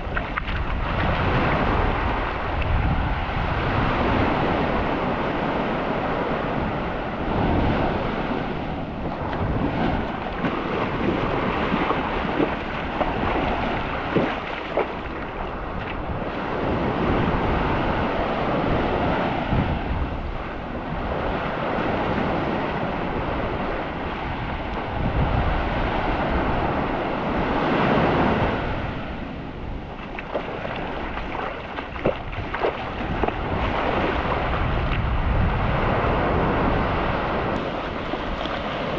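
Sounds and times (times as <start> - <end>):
sea surf washing onto beach: 0.0 - 38.9
wind buffeting microphone: 0.0 - 38.9.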